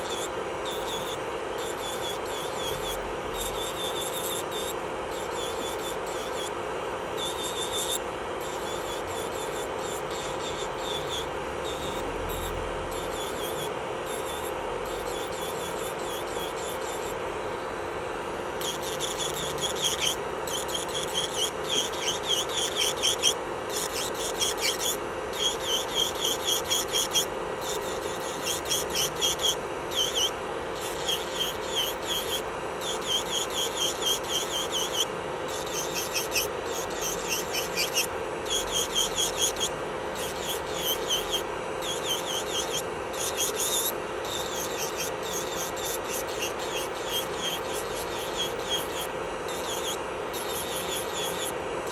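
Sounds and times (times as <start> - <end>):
nail drill grinding fingernail: 0.0 - 17.4, 18.2 - 51.9.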